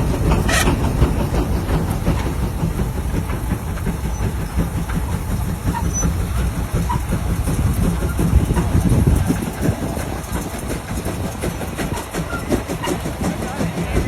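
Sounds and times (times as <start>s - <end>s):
steam traction engine running: 0.0s - 14.0s.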